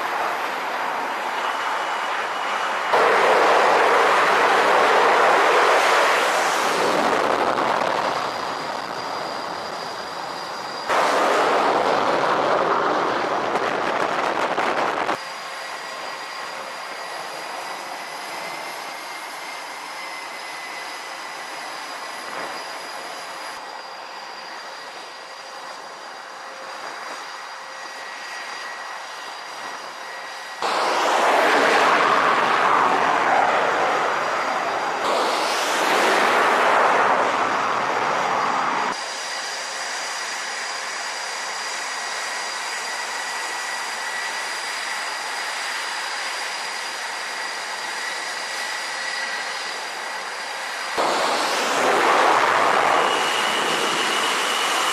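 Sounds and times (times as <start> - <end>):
jet engine roaring: 0.0 - 54.9
jet whine: 0.0 - 54.9.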